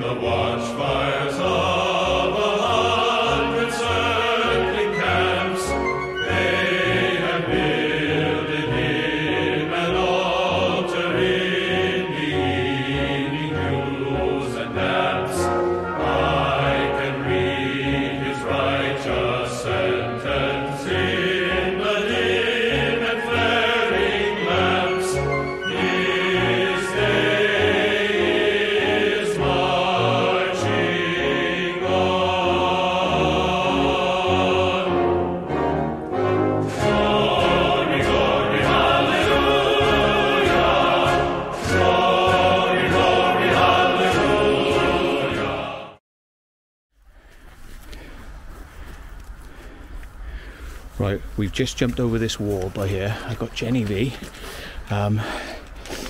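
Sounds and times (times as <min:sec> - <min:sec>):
choral singing: 0:00.0 - 0:46.0
orchestral backing music: 0:00.0 - 0:46.0.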